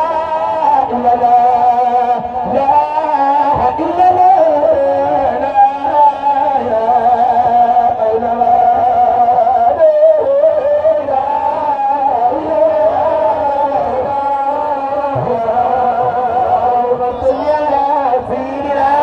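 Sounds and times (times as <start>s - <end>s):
man singing into microphone: 0.0s - 19.0s.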